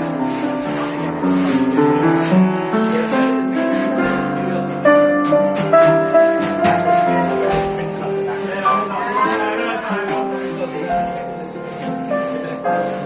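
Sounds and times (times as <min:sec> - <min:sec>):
jazz band playing: 0:00.0 - 0:13.0
piano chords and melody: 0:00.0 - 0:13.0.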